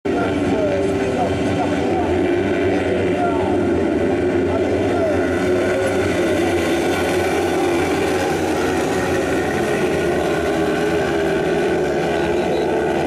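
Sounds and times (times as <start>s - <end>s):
racing buggy engines droning: 0.1s - 13.0s.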